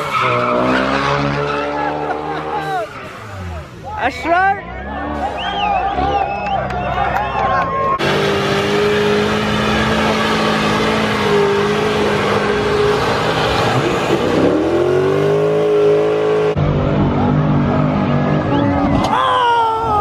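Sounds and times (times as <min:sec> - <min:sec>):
car engine revving: 0:00.0 - 0:19.1.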